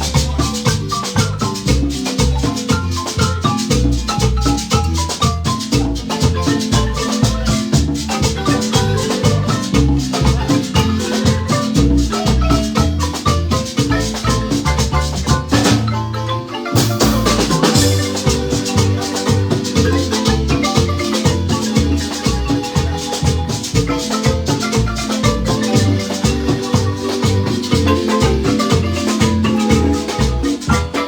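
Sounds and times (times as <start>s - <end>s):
deep bass line: 0.0s - 31.0s
marimba mallet runs: 0.0s - 31.0s
shaken percussion: 0.0s - 31.0s.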